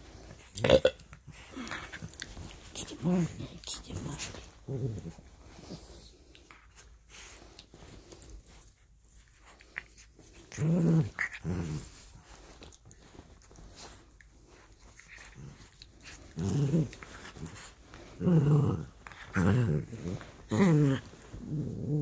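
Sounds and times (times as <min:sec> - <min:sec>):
dogs growling in play: 0:00.0 - 0:22.0.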